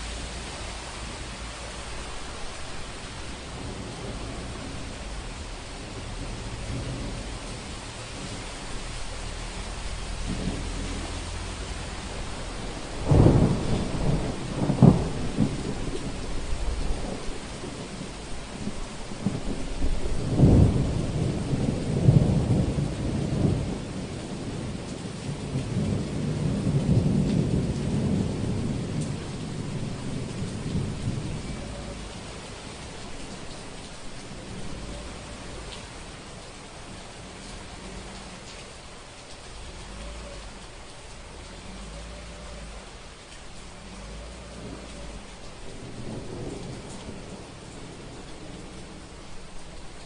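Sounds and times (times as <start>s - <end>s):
heavy rain falling: 0.0s - 50.0s
thunder claps and rumbles: 0.0s - 50.0s.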